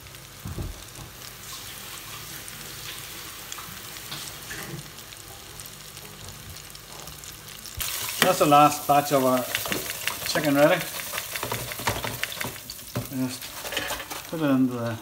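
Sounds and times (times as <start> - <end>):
oil sizzling in deep fryer: 0.0 - 15.0.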